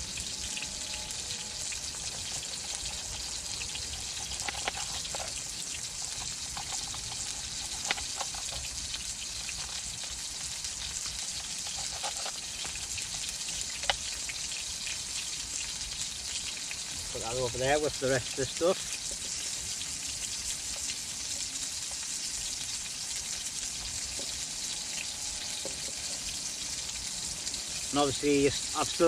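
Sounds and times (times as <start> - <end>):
patty sizzling in a pan: 0.0 - 29.0.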